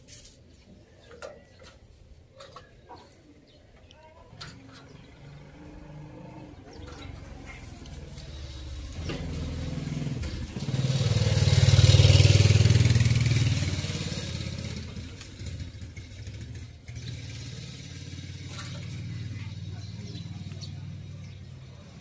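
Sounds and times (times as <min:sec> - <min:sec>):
motor vehicle passing by: 0:04.3 - 0:22.0.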